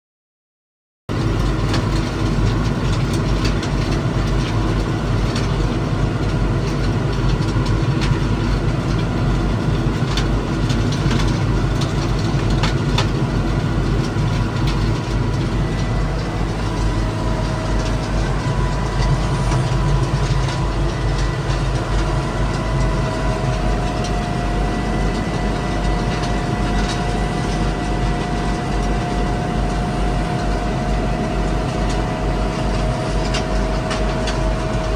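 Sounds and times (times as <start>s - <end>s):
stone crusher engine drone: 1.1s - 34.9s
faint machine whine: 1.2s - 34.9s.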